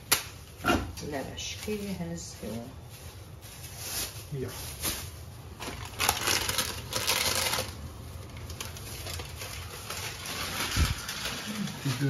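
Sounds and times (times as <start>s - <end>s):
plastic bag rustling: 1.2s - 12.0s.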